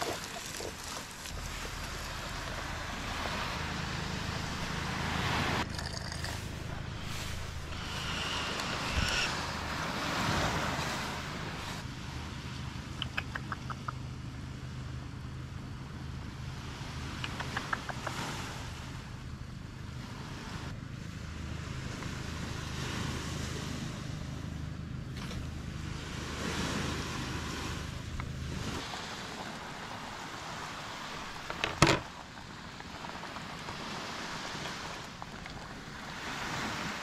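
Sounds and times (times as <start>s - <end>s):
small waves washing onto beach: 0.0s - 12.9s, 16.4s - 37.0s
low motor hum: 0.0s - 36.7s.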